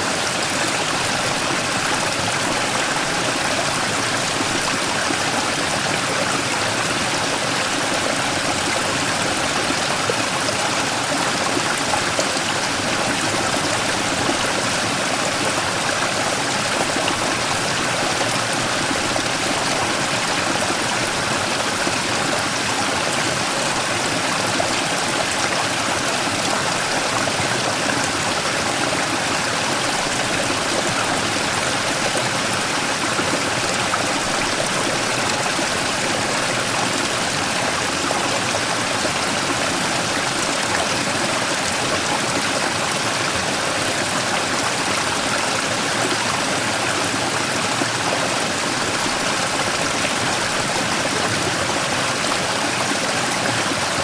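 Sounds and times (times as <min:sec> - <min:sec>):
stream rushing over rock: 0:00.0 - 0:54.0.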